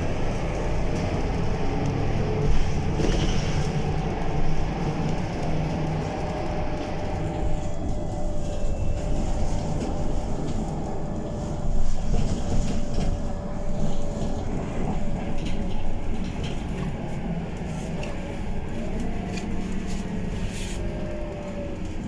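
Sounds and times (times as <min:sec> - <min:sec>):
bus engine rumble: 0:00.0 - 0:22.0
engine whine: 0:00.0 - 0:22.0.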